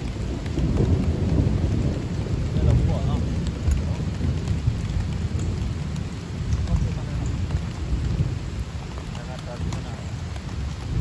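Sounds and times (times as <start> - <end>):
heavy rain drumming on a tarp: 0.0 - 11.0
rain hissing on a river: 0.0 - 11.0.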